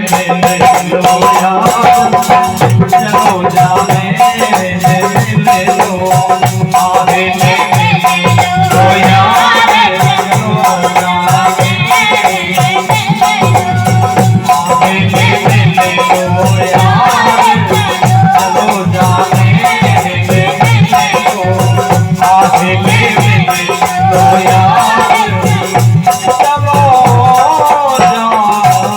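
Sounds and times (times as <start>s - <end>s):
rattling shaker percussion: 0.0s - 28.9s
steady drum beat: 0.0s - 28.9s.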